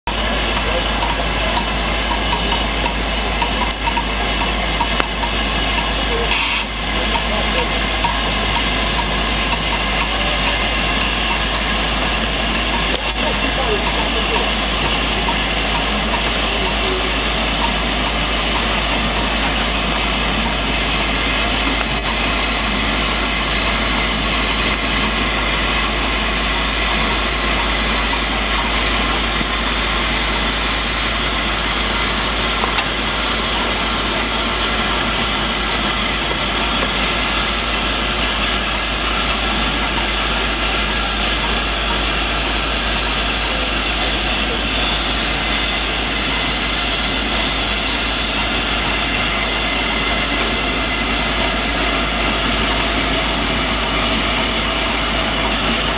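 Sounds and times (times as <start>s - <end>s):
steam locomotive hissing: 0.0s - 55.9s.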